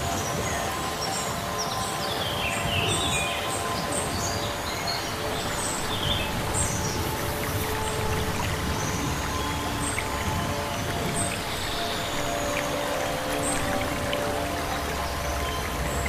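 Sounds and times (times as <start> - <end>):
birds chirping: 0.0 - 16.0
steady background noise: 0.0 - 16.0.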